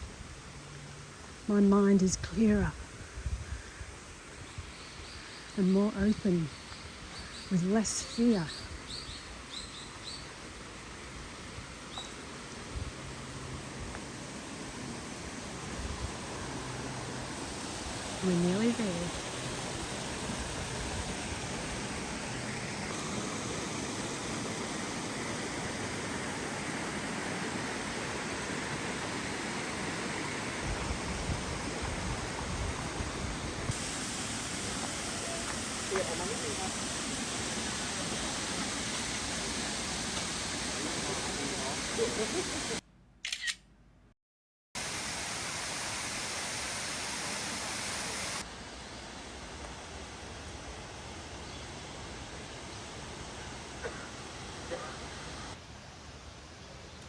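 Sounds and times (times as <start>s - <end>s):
stream and waterfall rushing: 6.6s - 42.8s, 44.8s - 56.4s.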